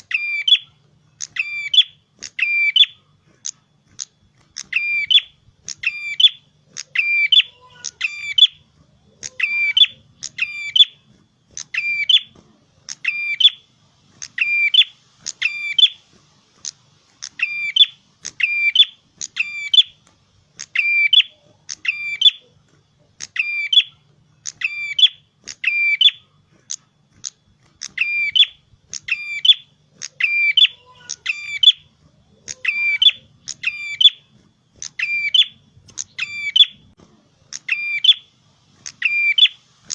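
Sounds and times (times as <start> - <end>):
bird singing shrill phrases: 0.0 - 3.0, 4.6 - 8.6, 9.2 - 11.0, 11.6 - 12.3, 12.9 - 16.0, 16.6 - 20.0, 20.6 - 22.5, 23.2 - 26.3, 27.8 - 39.9.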